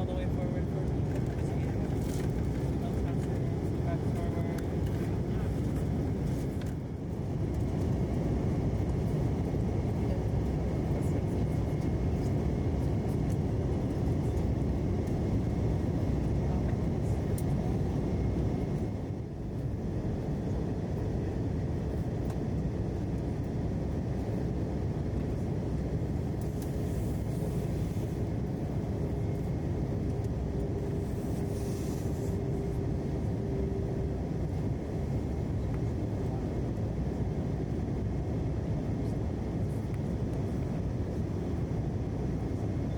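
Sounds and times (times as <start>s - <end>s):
airliner cabin roar: 0.0s - 42.9s.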